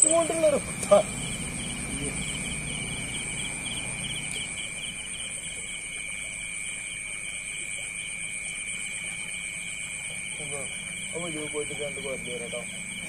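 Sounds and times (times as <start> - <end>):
fast pulsing insect chirp: 0.0 - 13.0
insects trilling: 0.0 - 13.0.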